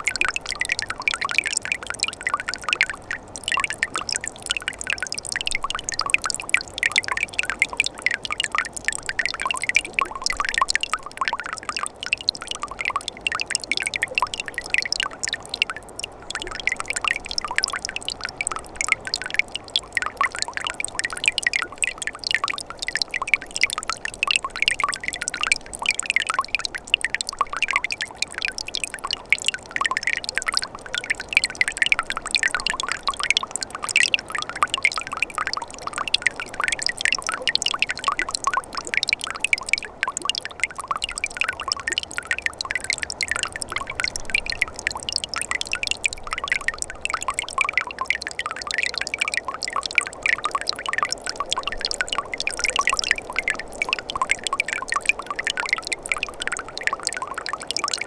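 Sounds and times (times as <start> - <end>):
water bubbling and trickling: 0.0 - 58.0.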